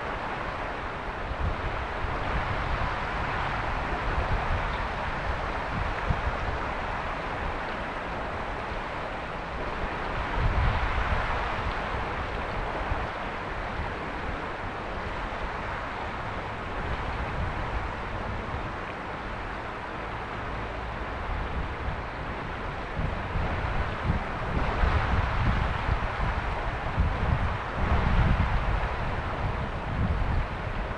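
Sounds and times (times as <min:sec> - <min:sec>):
water rushing over rocks: 0:00.0 - 0:30.9.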